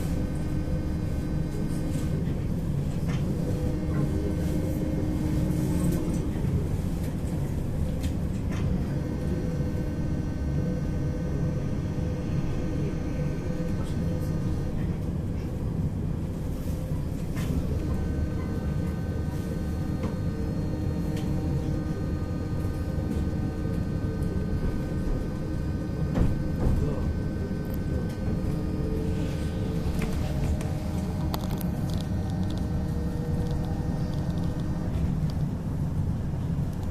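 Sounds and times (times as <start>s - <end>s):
tram rumbling on rails: 0.0s - 36.9s.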